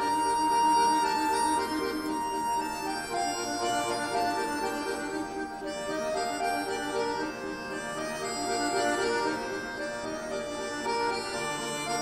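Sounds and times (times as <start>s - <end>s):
button accordions playing chords: 0.0s - 12.0s.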